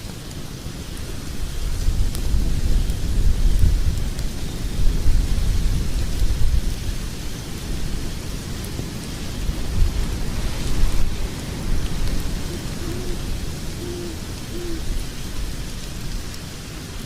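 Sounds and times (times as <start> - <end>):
fire crackling: 0.0 - 17.0
low rumble of flames: 0.0 - 17.0.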